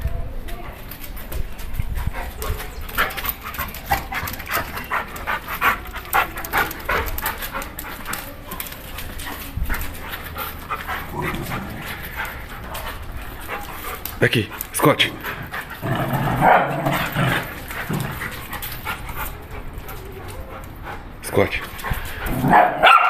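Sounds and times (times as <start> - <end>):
dog panting: 1.0 - 22.3.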